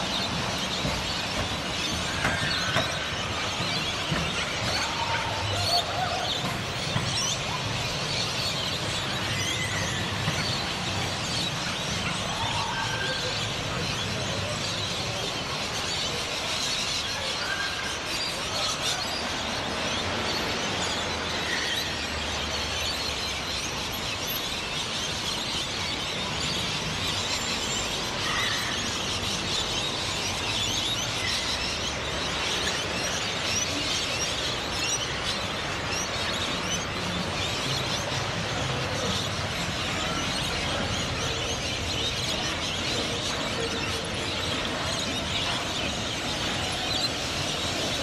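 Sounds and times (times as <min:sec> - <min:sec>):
birds chirping: 0:00.0 - 0:48.0
street traffic hum: 0:00.0 - 0:48.0.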